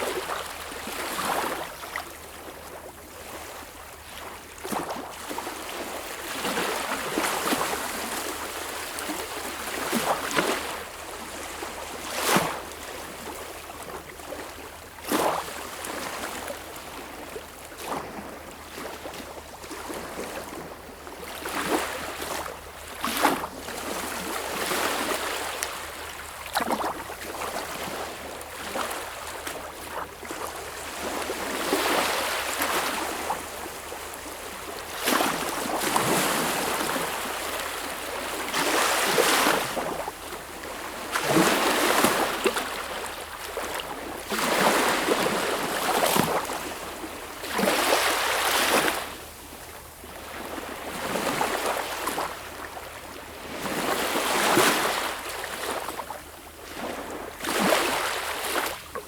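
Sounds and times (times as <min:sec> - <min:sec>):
small waves lapping: 0:00.0 - 0:59.0.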